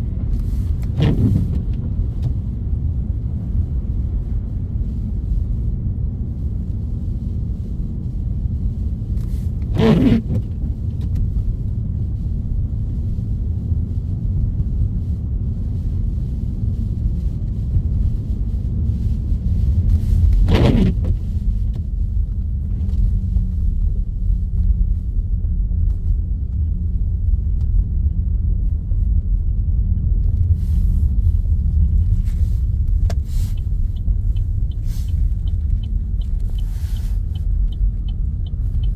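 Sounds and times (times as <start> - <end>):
car driving on snowy road: 0.0 - 38.9.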